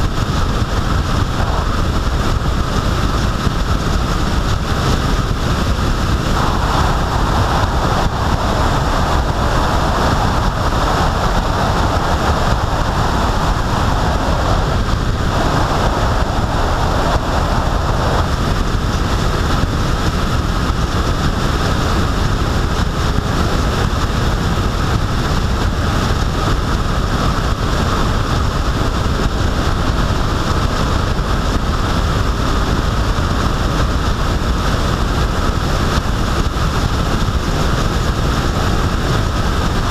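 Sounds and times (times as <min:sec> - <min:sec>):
tyre and road noise: 0:00.0 - 0:39.9
wind over microphone: 0:00.0 - 0:39.9.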